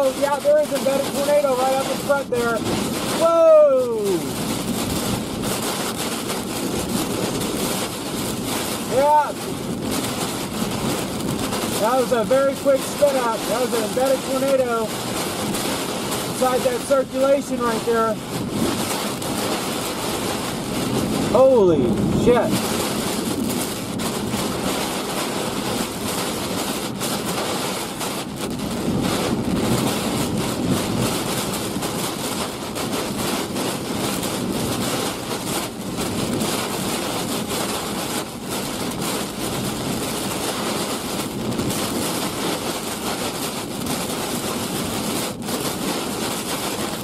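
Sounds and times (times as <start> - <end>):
heavy rain beating on vehicle: 0.0 - 47.0
wind: 0.0 - 47.0.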